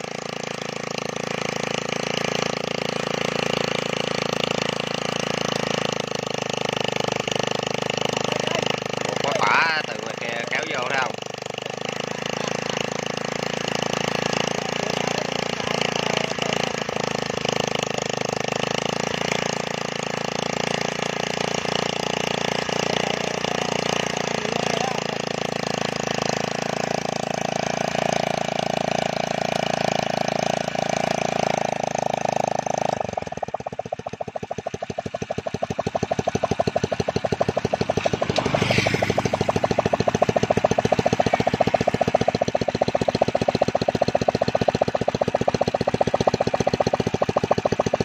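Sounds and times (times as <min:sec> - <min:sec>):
brush cutter engine running: 0:00.0 - 0:48.0
single-cylinder engine chuffing: 0:00.0 - 0:48.0.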